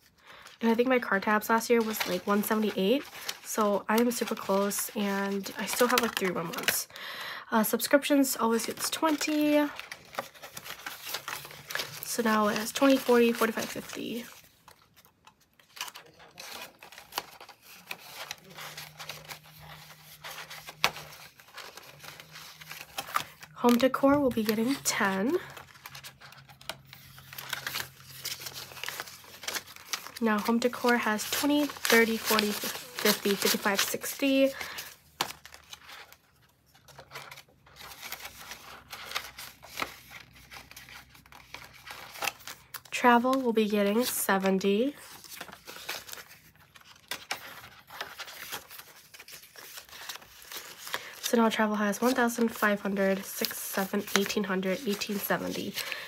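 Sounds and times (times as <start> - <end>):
banknotes and plastic sleeve rustling: 0.0 - 56.0
plastic binder pocket crinkling: 1.1 - 6.8, 8.5 - 56.0.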